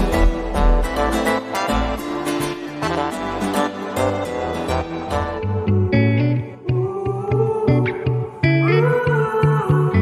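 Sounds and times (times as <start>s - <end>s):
instrumental pop music: 0.0s - 10.0s.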